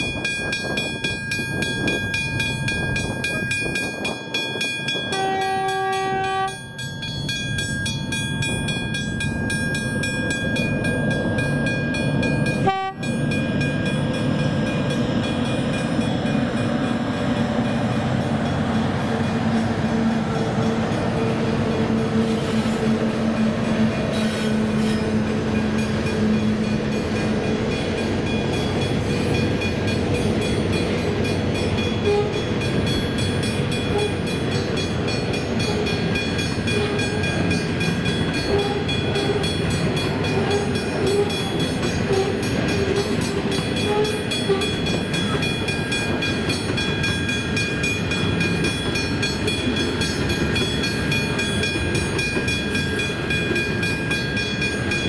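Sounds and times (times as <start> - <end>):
level-crossing bell ringing: 0.0 - 19.6, 25.2 - 55.0
diesel locomotive engine: 0.0 - 55.0
freight wagons rumbling on rails: 0.0 - 55.0.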